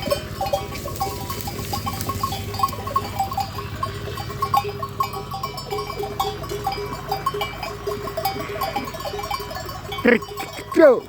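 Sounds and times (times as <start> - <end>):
sheep bells clinking: 0.0 - 11.0.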